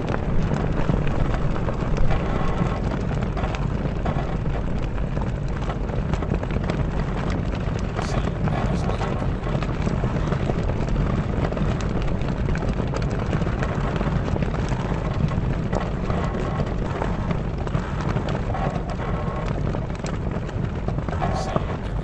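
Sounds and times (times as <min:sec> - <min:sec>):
low wind rumble: 0:00.0 - 0:22.0
sails flapping: 0:00.0 - 0:22.0
wooden mast creaking: 0:00.0 - 0:22.0.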